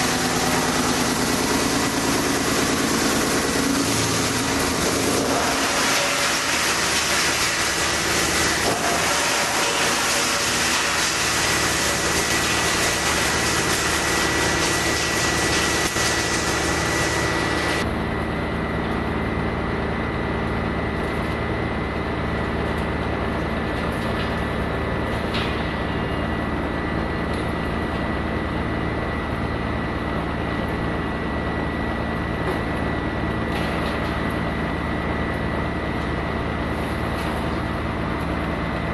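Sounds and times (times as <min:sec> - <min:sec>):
wood chipper engine hum: 0:00.0 - 0:38.9.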